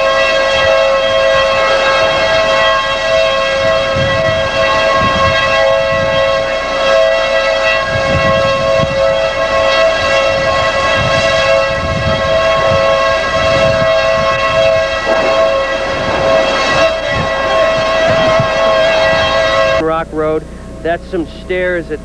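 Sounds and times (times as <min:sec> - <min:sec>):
wind on microphone: 0:00.0 - 0:20.9
two-note warning siren: 0:00.0 - 0:22.0.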